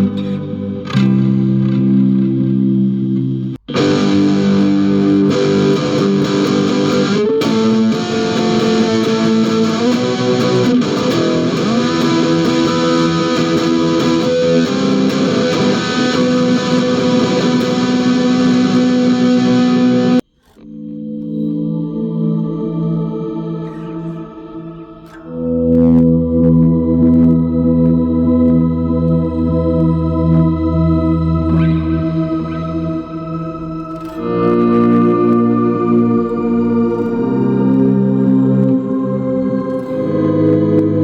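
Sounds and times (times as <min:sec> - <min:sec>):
electric guitar chords and notes: 0:00.0 - 0:41.0.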